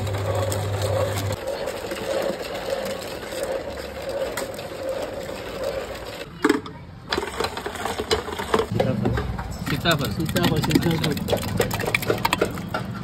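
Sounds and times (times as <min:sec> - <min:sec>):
ice-cream churn whirring: 0:00.0 - 0:13.0.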